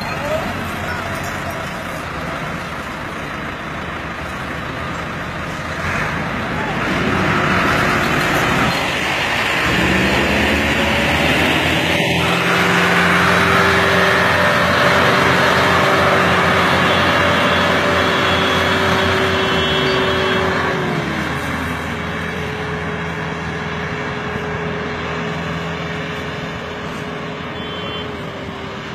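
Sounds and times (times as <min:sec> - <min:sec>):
tractor diesel engine labouring: 0:00.0 - 0:28.9.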